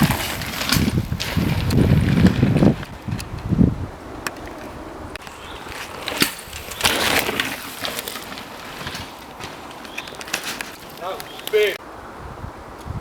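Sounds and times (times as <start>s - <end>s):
bike rattles and knocks: 0.0s - 11.8s
bike tyres on dirt trail: 0.0s - 11.8s.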